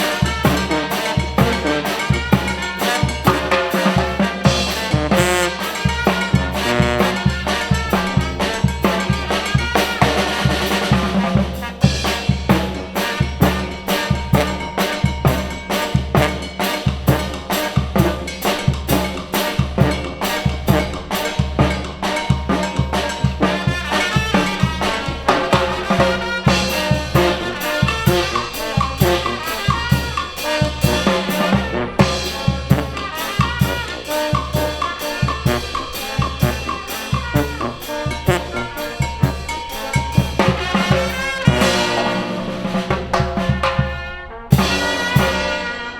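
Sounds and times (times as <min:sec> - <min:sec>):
brass band playing: 0:00.0 - 0:45.9
driving drum beat: 0:00.0 - 0:45.9.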